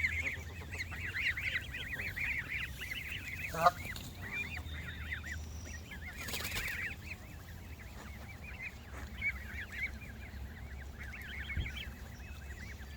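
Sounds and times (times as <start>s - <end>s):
geese honking: 0.0s - 12.9s.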